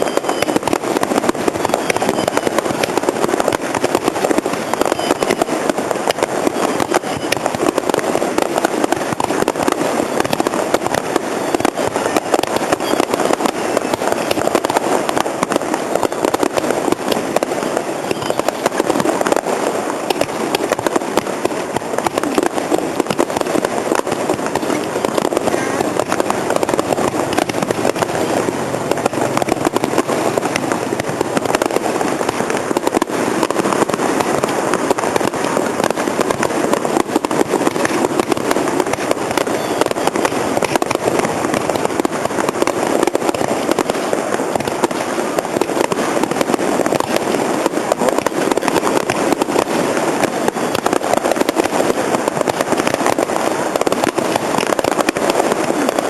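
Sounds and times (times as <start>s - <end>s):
fireworks popping and crackling: 0.0s - 56.0s.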